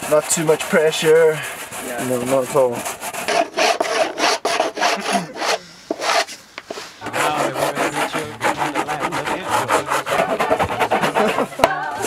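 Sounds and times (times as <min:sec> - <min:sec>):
wax scraping on surfboard: 0:00.0 - 0:12.0.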